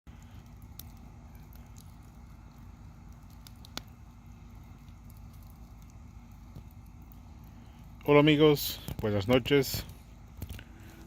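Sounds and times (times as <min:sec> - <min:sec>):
campfire crackling and popping: 0:00.1 - 0:11.0.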